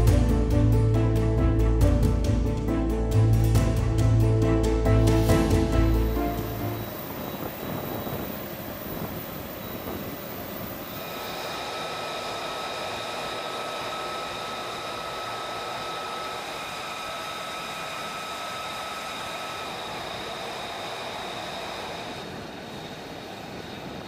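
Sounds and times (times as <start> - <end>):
high multi-tone jet whine: 0.0 - 24.0
jet aircraft rushing noise: 0.0 - 24.0.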